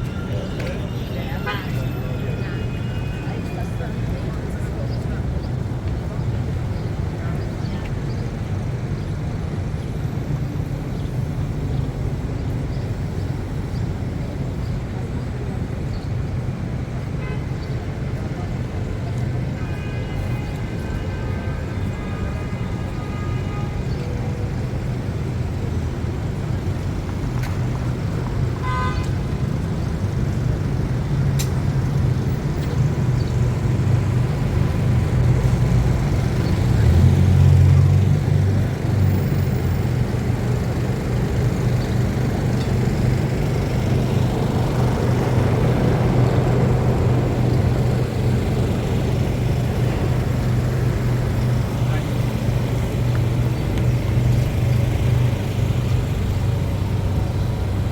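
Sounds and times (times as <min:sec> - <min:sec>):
traffic rumble: 0:00.0 - 0:57.9.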